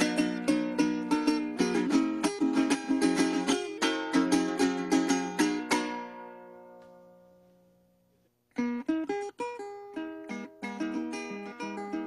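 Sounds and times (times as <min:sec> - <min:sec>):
small guitar strummed: 0:00.0 - 0:07.4, 0:08.5 - 0:12.0.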